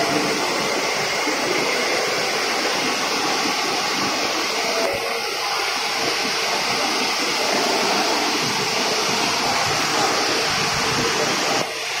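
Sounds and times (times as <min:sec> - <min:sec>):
rushing machinery noise: 0:00.0 - 0:12.0.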